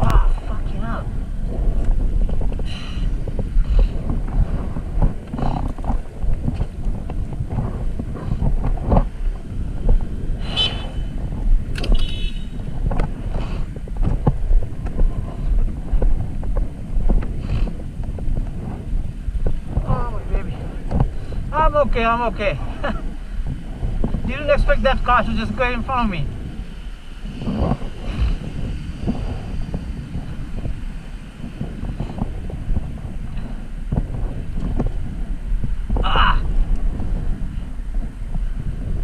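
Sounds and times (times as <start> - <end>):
road rumble: 0.0 - 39.0
wind buffeting microphone: 0.0 - 39.0.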